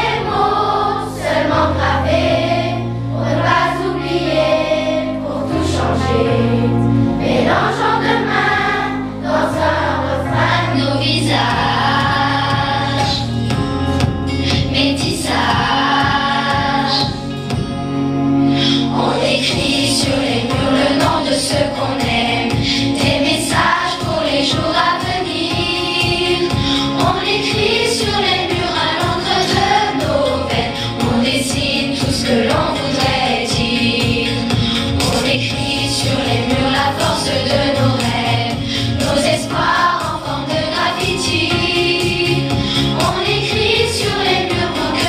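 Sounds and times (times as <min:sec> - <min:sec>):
children's choir singing: 0:00.0 - 0:13.3, 0:14.7 - 0:17.3, 0:18.6 - 0:45.0
musical accompaniment with steady beat: 0:00.0 - 0:45.0.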